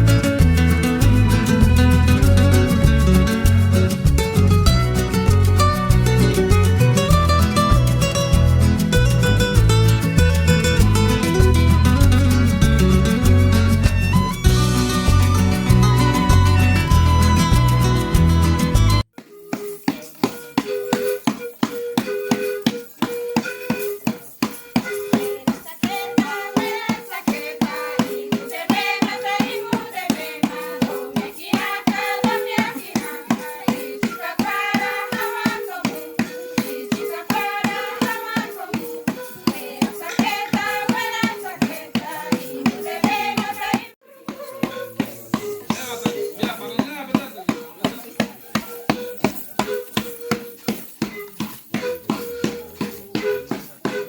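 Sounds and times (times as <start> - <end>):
music with fast beat and melody: 0.0 - 54.0.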